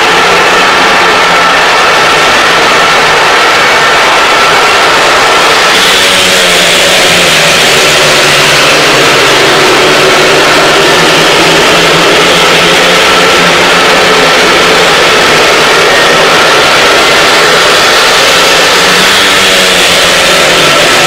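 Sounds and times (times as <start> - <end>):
motorbikes racing: 0.0 - 21.0.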